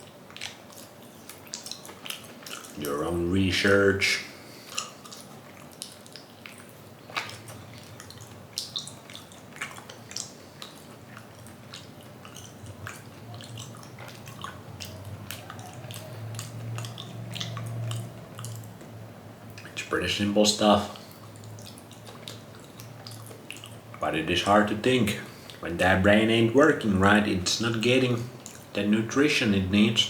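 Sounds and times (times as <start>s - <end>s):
chewing smacks: 0.0s - 30.0s
faint low hum: 0.0s - 30.0s.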